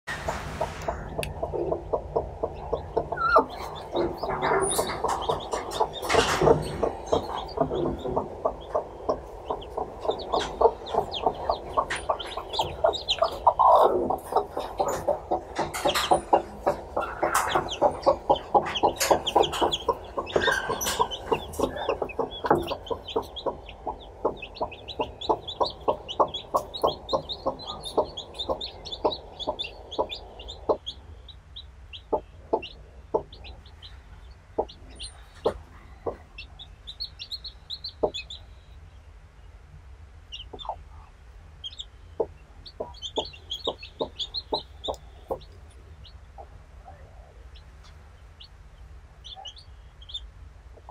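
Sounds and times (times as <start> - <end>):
hen clucking: 0.1 - 38.7, 40.3 - 48.5, 49.2 - 50.9
chicks peeping: 0.1 - 39.6, 40.2 - 50.9.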